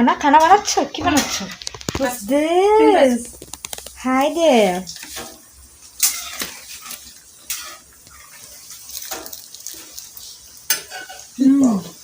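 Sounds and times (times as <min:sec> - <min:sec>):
faint steady hiss: 0:00.0 - 0:12.0
utensils clinking: 0:00.4 - 0:11.4.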